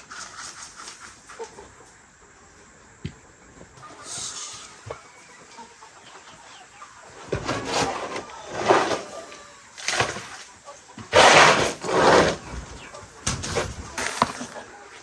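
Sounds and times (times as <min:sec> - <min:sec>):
chickens clucking and squawking: 0:00.0 - 0:15.0.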